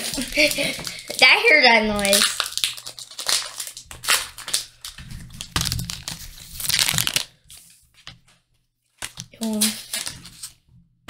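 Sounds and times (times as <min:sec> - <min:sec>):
foil wrapper crinkling: 0:00.0 - 0:08.3, 0:09.0 - 0:10.6
trading cards rustling: 0:00.0 - 0:08.3, 0:08.9 - 0:10.6.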